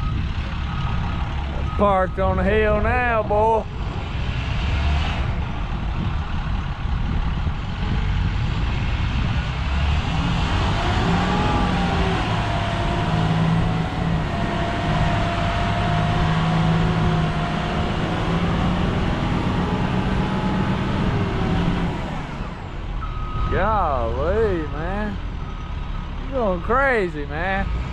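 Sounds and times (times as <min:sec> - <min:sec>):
vehicle engine running: 0:05.3 - 0:27.9.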